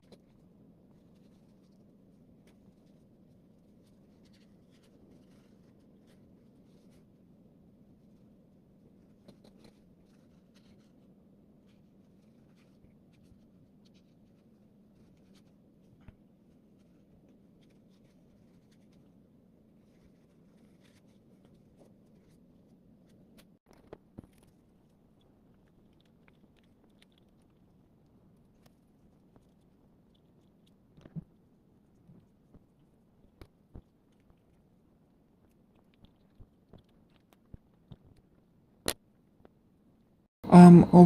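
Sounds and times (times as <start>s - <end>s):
small clicks and scratches: 0.0s - 40.2s.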